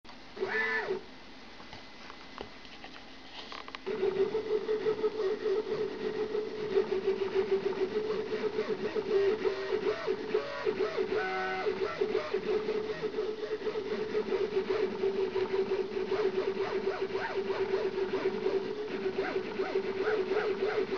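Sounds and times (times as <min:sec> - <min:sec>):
stepper motors whining: 0:00.4 - 0:01.0, 0:03.8 - 0:20.9.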